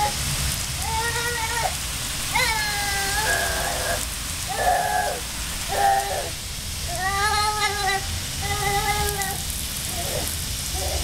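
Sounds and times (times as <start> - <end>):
garden hose water spraying: 0.0 - 11.0
toddler calling out: 0.8 - 11.0.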